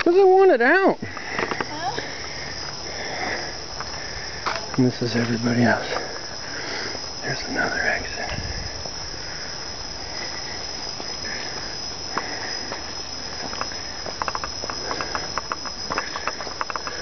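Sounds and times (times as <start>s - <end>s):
insects calling: 0.0s - 17.0s.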